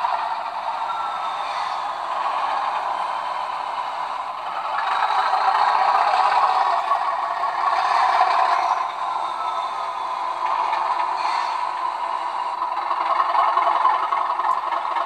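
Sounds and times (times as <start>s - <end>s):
model train rattling whir: 0.0s - 15.0s.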